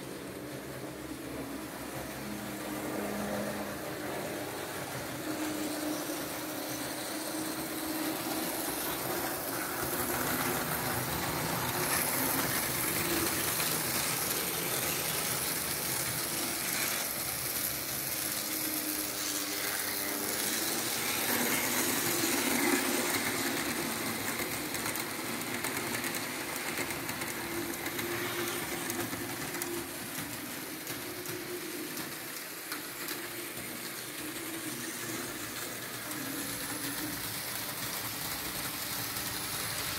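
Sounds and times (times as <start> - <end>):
model train wheels rattling: 2.6 - 39.9.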